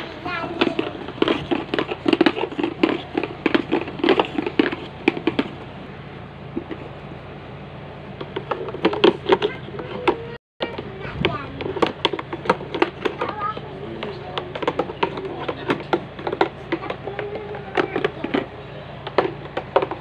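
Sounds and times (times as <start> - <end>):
scrubbing and tapping on plastic: 0.0 - 5.7, 6.5 - 7.1, 8.2 - 20.0.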